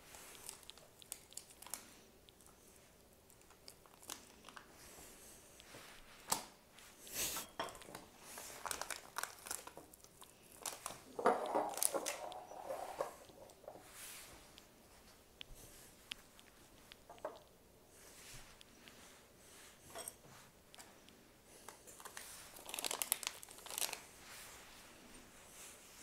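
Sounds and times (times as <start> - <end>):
rustling and crinkling handling: 0.0 - 26.0.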